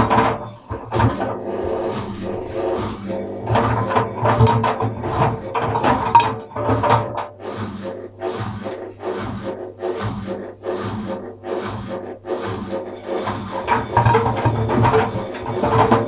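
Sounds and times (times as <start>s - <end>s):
low motor hum: 0.0s - 16.0s
wet load swishing in washing drum: 0.0s - 16.0s.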